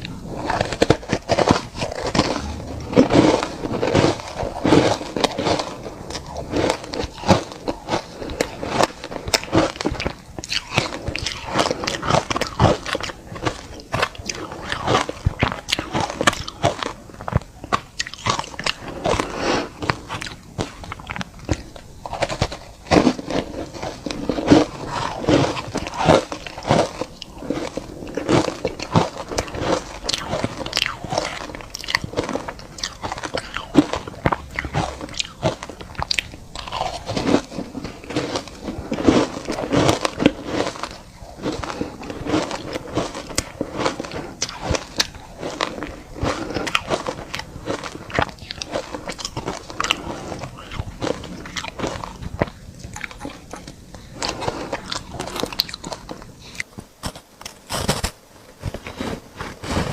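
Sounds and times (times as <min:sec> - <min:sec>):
crunching and chewing ice: 0:00.0 - 0:59.9.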